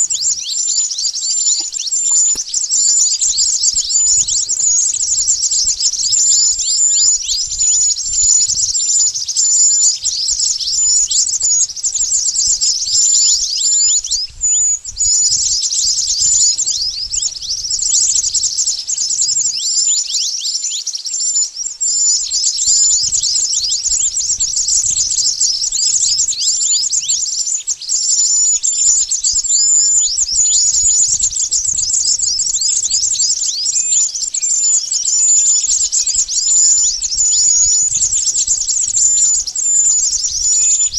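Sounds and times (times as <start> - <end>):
high bird chirps: 0.0 - 40.9.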